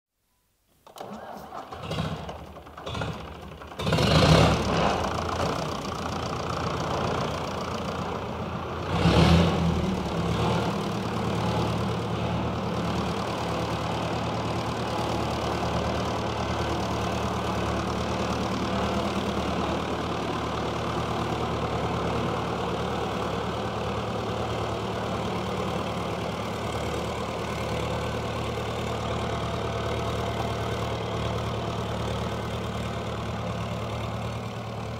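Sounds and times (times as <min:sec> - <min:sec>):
diesel tractor engine starting and idling: 0:00.8 - 0:34.9.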